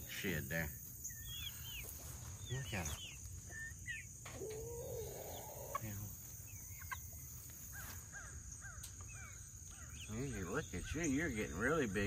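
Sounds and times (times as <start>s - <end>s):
chicks peeping and chirping: 0.0s - 12.0s.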